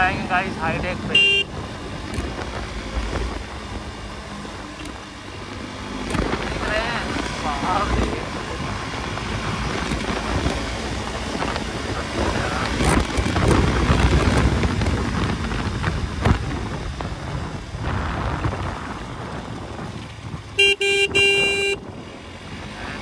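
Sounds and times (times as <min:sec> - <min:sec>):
wind buffeting microphone: 0:00.0 - 0:22.8
motorcycle engine running: 0:00.0 - 0:23.0.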